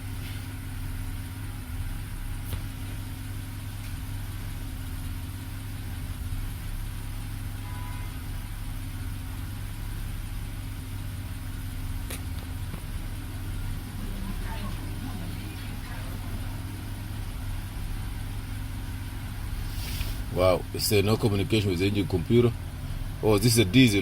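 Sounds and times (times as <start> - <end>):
engine idling with misfire: 0.0 - 24.0.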